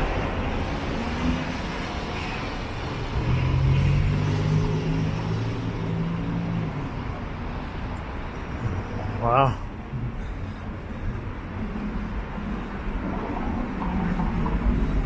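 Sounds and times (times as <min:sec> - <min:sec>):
heavy vehicle engine hum: 0:00.0 - 0:15.0
passing cars rumble: 0:00.0 - 0:15.0.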